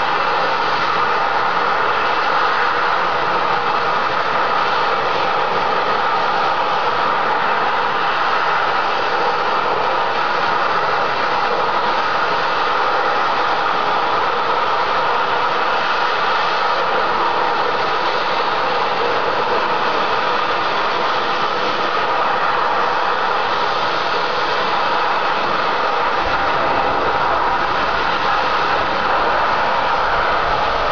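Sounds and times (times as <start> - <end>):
high-pressure gas hissing: 0.0 - 30.9.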